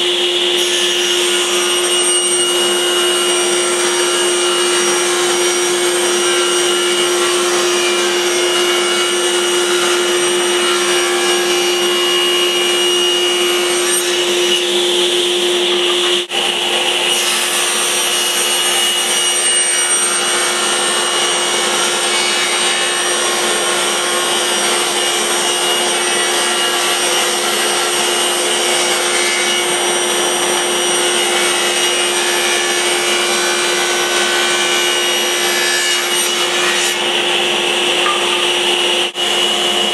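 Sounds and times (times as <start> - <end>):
router whining cutting wood: 0.0 - 39.9.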